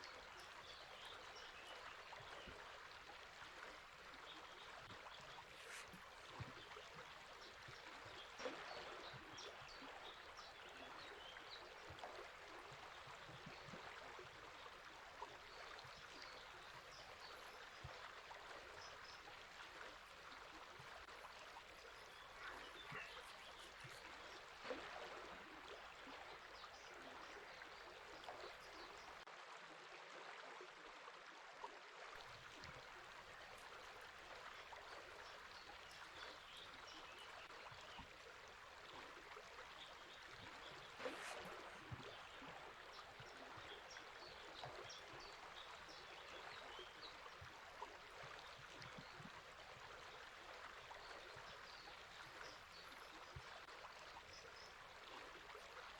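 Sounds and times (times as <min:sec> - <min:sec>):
faint river flowing: 0:00.0 - 0:55.9.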